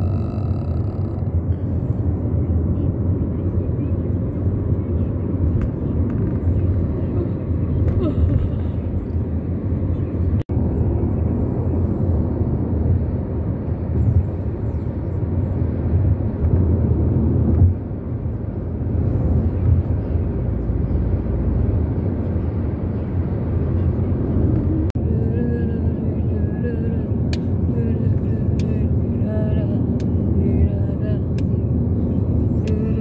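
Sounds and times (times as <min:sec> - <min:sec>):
vehicle road and engine rumble: 0:00.0 - 0:33.0.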